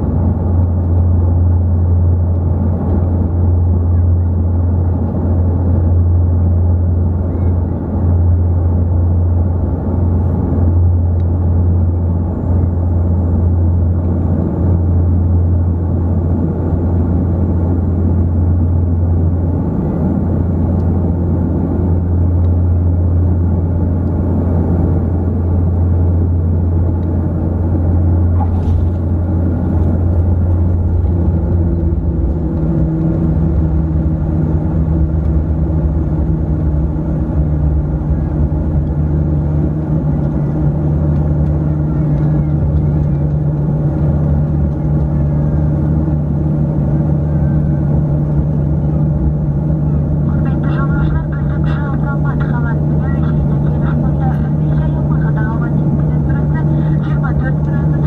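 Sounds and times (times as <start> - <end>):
turboprop cabin drone: 0.0 - 58.0.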